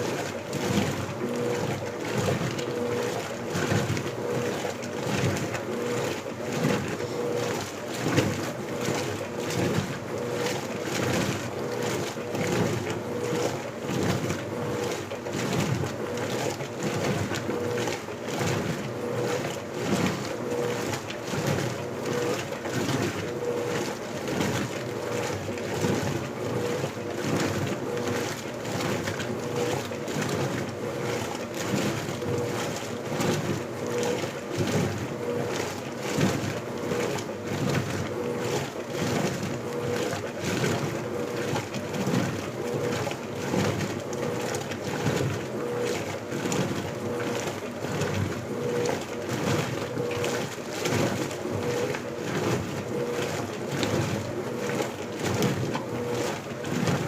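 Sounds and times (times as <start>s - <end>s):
washing machine motor hum: 0.0s - 57.0s
water swishing: 0.0s - 57.0s.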